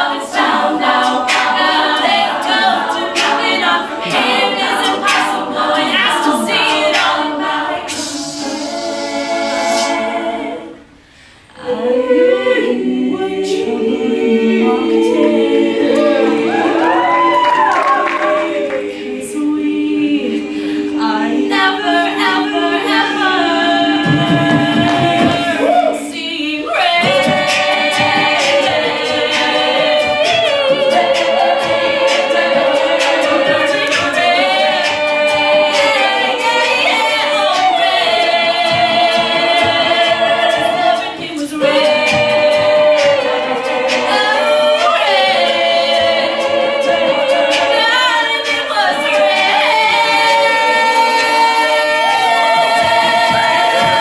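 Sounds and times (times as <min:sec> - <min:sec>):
female vocal group singing pop song: 0:00.0 - 0:54.0.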